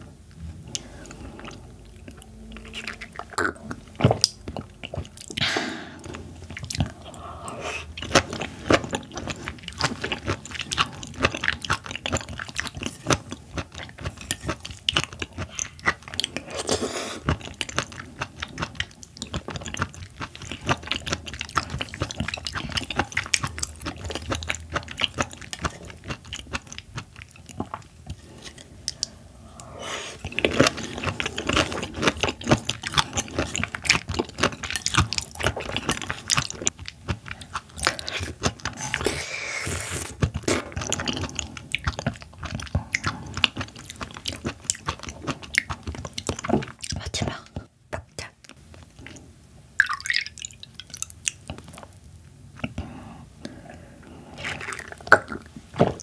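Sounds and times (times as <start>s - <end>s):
wet chewing sounds: 0.7s - 49.2s, 49.8s - 56.0s.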